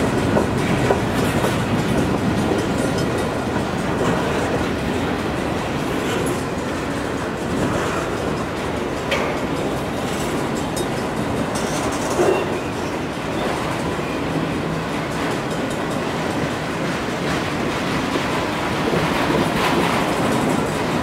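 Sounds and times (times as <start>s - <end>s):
freight train cars rolling: 0.0s - 21.0s.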